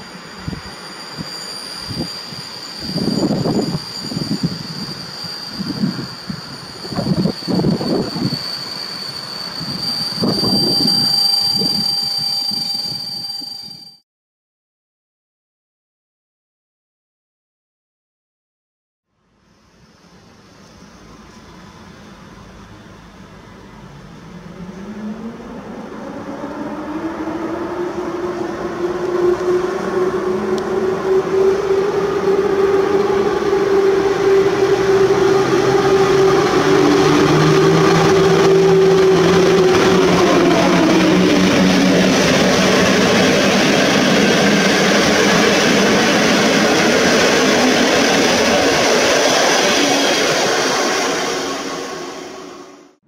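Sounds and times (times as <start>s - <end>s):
electric locomotive motor hum: 0.0s - 14.0s, 19.6s - 53.0s
train carriages rolling past: 0.0s - 14.0s, 19.6s - 53.0s.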